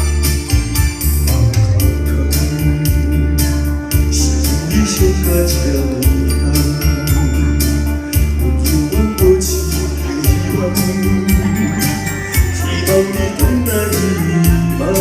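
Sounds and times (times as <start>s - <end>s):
electronic organ backing music: 0.0s - 15.0s.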